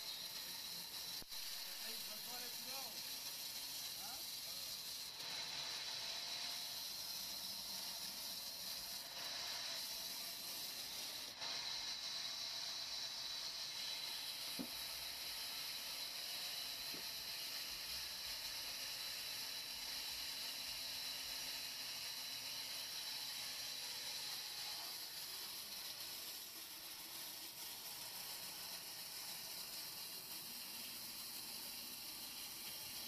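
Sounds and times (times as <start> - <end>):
band saw cutting wood: 0.0 - 33.0.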